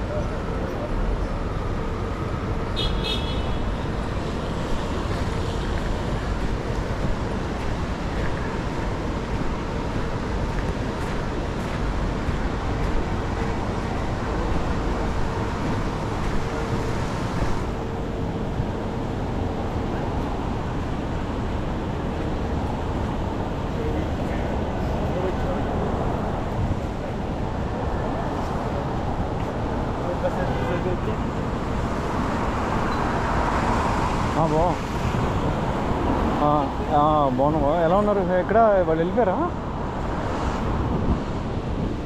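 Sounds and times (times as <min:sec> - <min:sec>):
city traffic rumble: 0:00.0 - 0:42.0.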